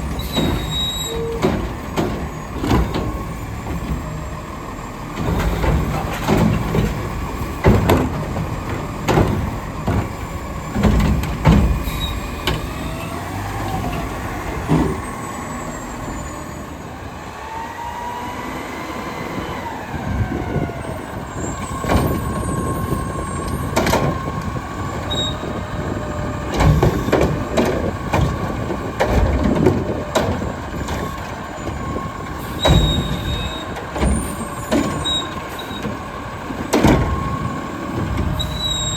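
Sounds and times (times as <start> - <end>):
loud bangs and clunks: 0.0 - 4.4, 5.0 - 15.2, 21.3 - 38.9
truck engine under load: 0.0 - 38.9.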